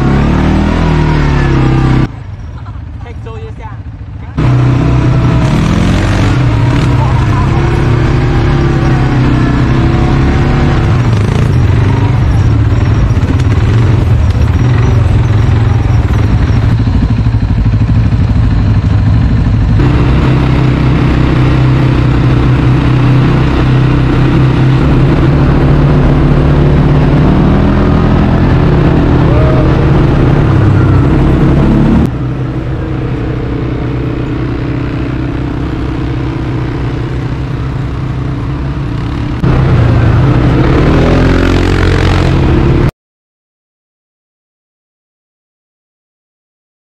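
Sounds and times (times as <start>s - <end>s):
atv engines droning: 0.0s - 42.9s.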